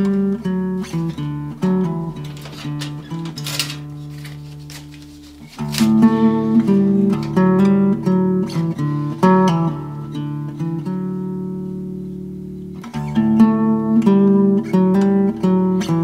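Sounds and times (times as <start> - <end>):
acoustic guitar picking a melody: 0.0 - 16.0.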